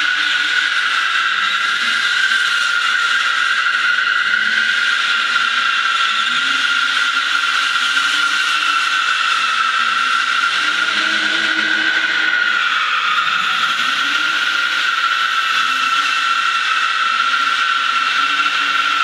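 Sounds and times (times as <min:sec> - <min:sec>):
car tyres squealing: 0:00.0 - 0:19.0.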